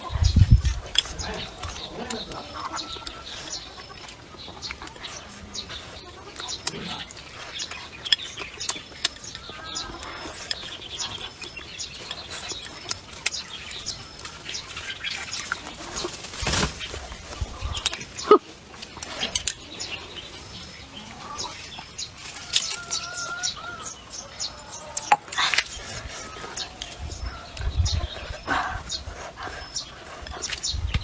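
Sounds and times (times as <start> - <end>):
chewing: 0.0 - 23.4, 24.5 - 31.0
small birds chirping: 0.0 - 31.0.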